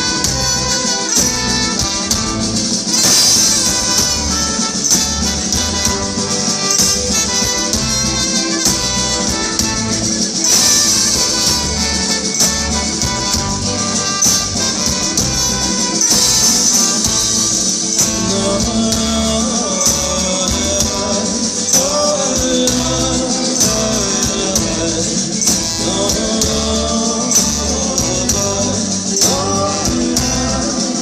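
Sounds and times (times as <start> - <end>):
pulsing bass: 0.0 - 31.0
steady percussion: 0.0 - 31.0.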